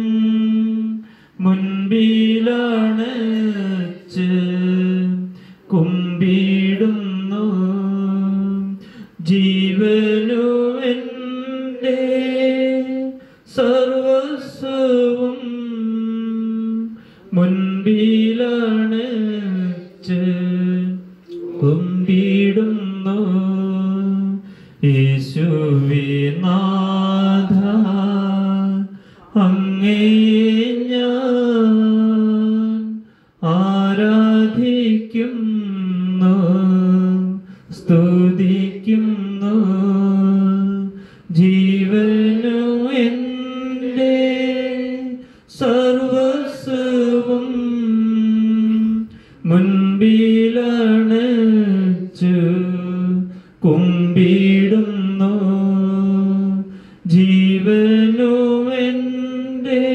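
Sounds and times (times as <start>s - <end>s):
person chanting prayer: 0.0s - 59.9s.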